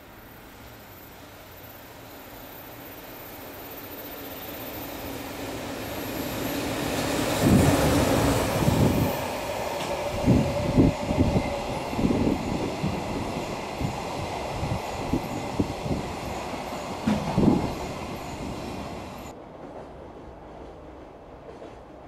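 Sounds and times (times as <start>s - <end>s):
steady locomotive whine: 0.0s - 22.0s.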